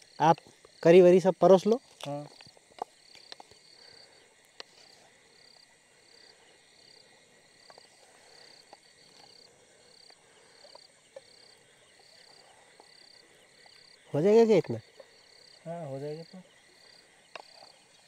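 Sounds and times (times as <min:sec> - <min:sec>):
insect chirping: 0:00.0 - 0:18.0
insect drone: 0:00.0 - 0:18.0.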